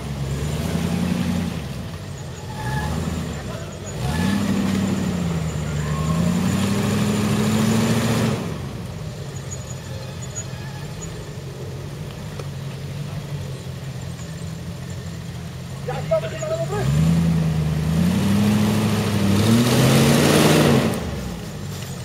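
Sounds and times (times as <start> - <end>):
engine revving under load: 0.0 - 14.1, 14.8 - 22.0.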